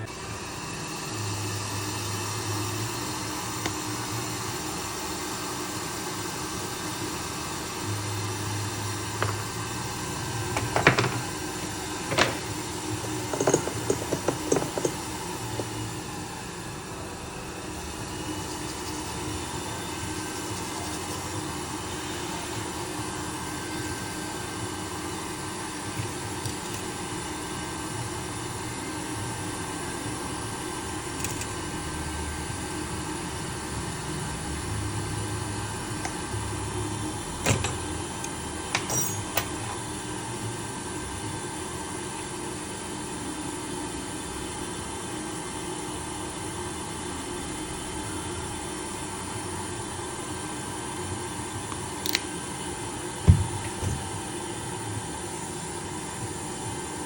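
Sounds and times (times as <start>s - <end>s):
mechanical motor hum: 0.0s - 57.0s.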